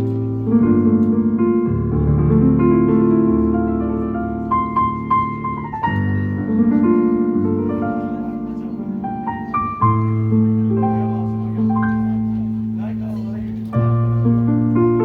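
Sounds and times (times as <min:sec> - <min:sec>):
solo piano chords and melody: 0:00.0 - 0:15.0.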